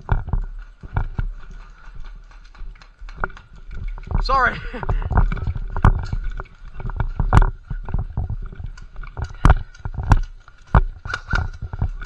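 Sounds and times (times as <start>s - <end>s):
sharp knocks and crackles: 0.0s - 12.0s.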